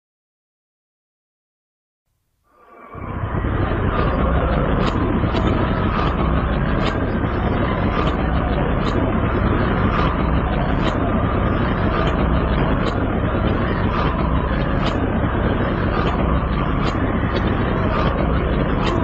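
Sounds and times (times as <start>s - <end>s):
loud rumbling noise: 2.6s - 19.0s.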